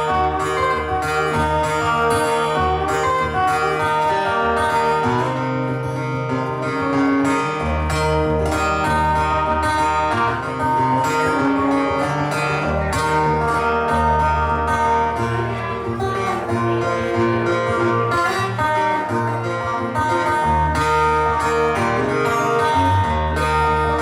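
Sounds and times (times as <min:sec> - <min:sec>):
low bass notes: 0:00.0 - 0:24.0
picked guitar notes: 0:00.0 - 0:24.0.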